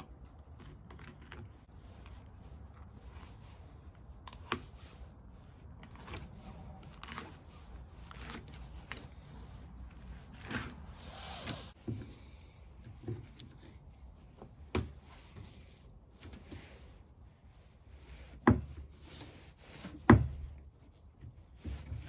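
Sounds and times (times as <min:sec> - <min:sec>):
knife cutting and scraping fish: 0:00.0 - 0:22.0.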